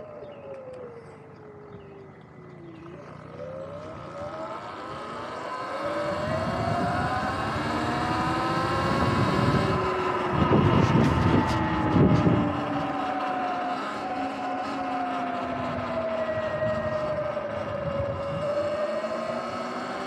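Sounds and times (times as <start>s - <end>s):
electric motorbike motor whine: 0.0s - 20.0s
road and wind noise: 0.0s - 20.0s
wind buffeting microphone: 1.7s - 19.6s.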